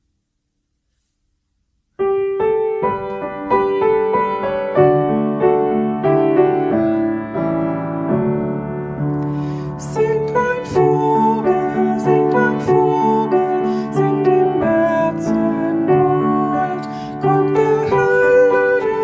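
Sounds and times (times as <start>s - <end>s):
piano playing: 2.0s - 19.0s.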